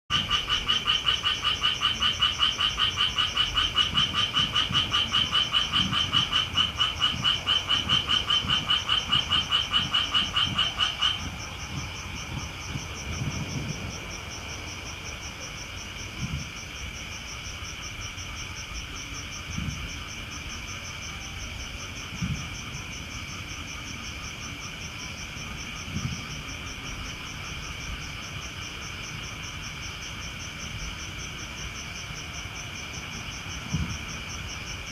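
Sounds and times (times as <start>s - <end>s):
frogs calling in chorus: 0.1s - 34.9s
insects trilling: 0.1s - 34.9s.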